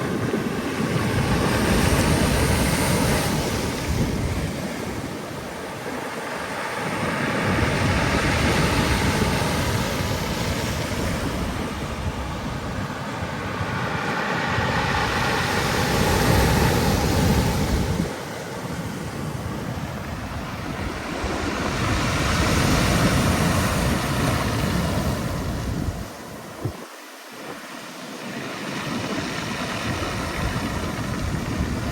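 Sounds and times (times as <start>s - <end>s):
waves washing onto shore: 0.0s - 31.9s
wind rumbling on microphone: 0.0s - 31.9s.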